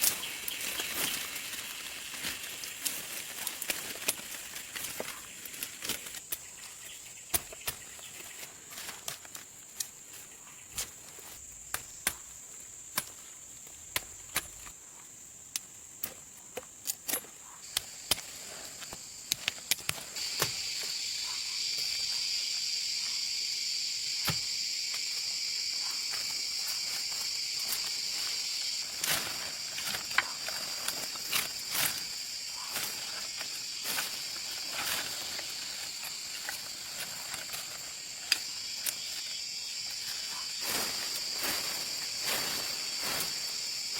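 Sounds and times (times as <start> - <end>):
insects trilling: 0.0 - 43.9
louder insect chorus: 0.0 - 43.9.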